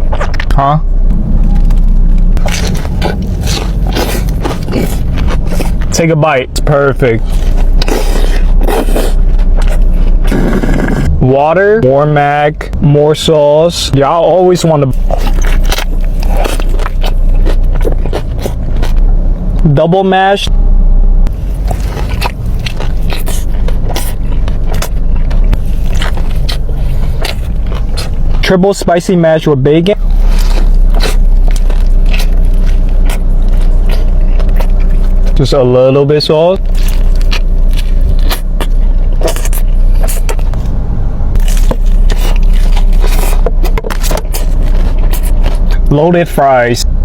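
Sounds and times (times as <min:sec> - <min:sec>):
biting and chewing burger: 0:00.0 - 0:11.2, 0:14.0 - 0:19.7, 0:21.2 - 0:47.0
steady low rumble: 0:00.0 - 0:47.0.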